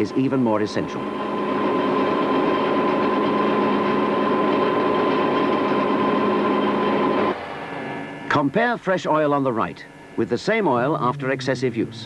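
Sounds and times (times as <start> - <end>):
hydraulic pump motor whine: 0.0 - 11.9.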